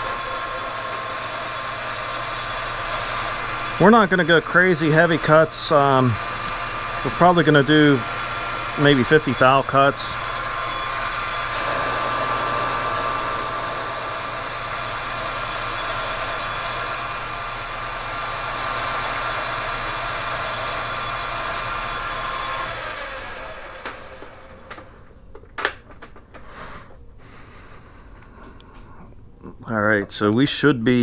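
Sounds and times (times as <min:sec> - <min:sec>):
metal lathe running: 0:00.0 - 0:24.9.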